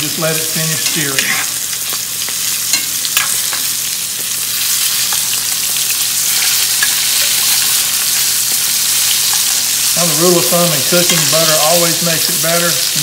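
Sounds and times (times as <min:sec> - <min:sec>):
steaks sizzling in a skillet: 0:00.0 - 0:13.0.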